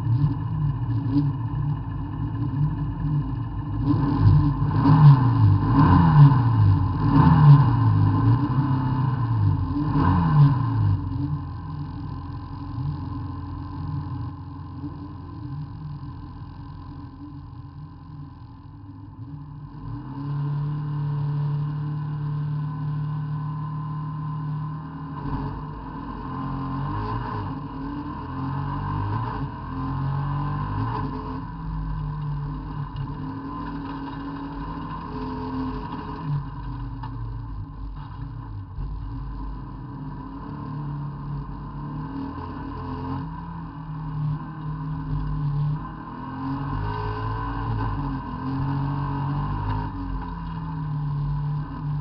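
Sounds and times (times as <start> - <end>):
race car engine: 0.0 - 52.0
road rumble: 0.0 - 52.0.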